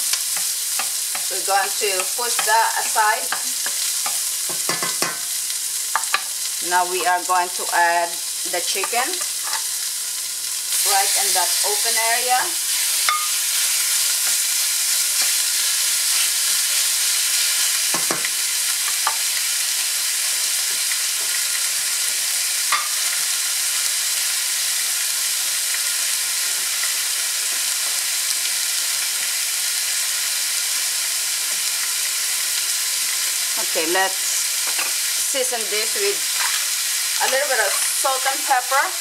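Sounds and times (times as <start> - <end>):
chicken sizzling in a pan: 0.0 - 39.0.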